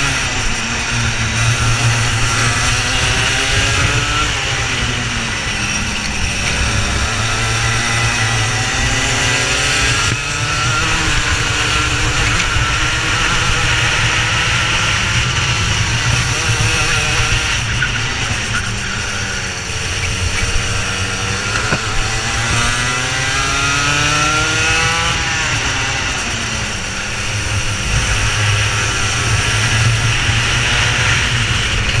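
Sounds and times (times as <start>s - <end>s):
kart engine revving: 0.0s - 32.0s.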